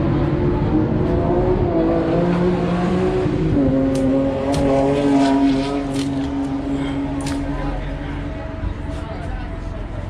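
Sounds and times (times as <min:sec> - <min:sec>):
racing car engines droning: 0:00.0 - 0:10.0.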